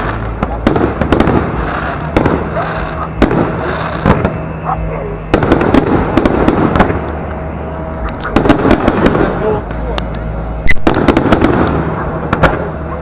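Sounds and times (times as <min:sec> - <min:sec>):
firework crackling: 0:00.0 - 0:13.0
firework shells bursting: 0:00.0 - 0:13.0.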